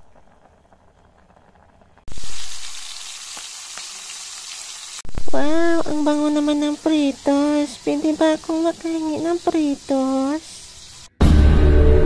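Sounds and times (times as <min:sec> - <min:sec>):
fish sizzling in hot oil: 0:00.0 - 0:11.1.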